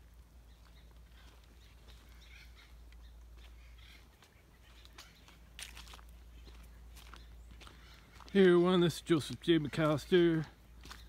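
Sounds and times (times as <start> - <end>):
bird calls: 0.0 - 11.0.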